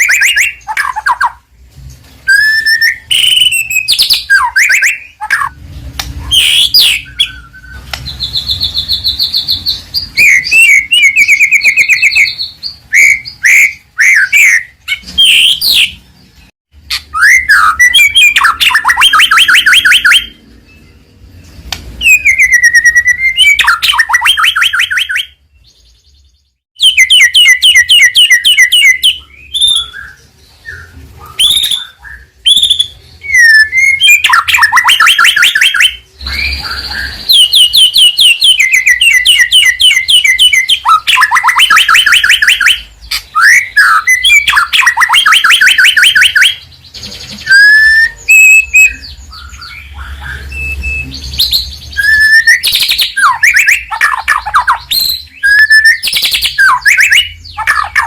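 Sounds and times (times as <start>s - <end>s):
songbird singing whistles and trills: 0.0s - 1.5s, 2.2s - 58.0s.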